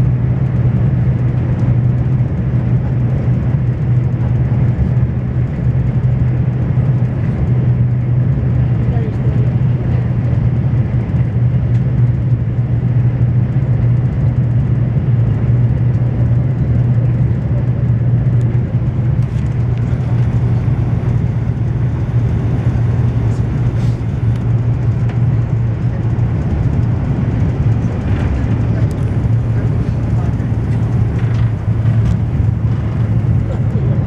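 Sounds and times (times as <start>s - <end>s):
constant rushing sound: 0.0s - 34.0s
train cabin low hum: 0.0s - 34.0s.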